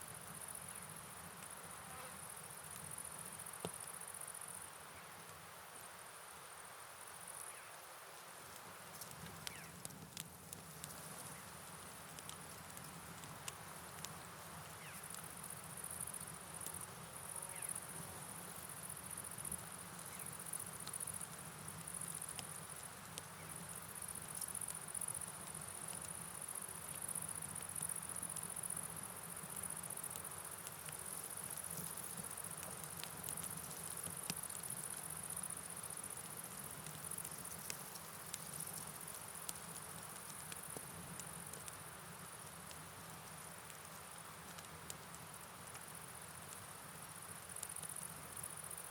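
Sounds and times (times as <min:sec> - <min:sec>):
rainfall: 0:00.1 - 0:48.9.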